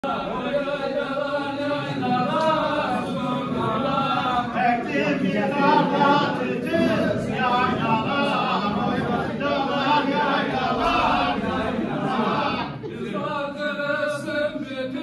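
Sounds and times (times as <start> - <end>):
men singing together: 0.0 - 15.0.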